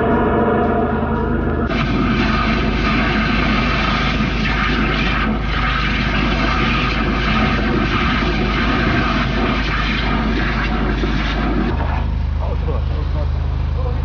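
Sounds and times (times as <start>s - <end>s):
drain-jetting machine drone: 0.0s - 14.0s.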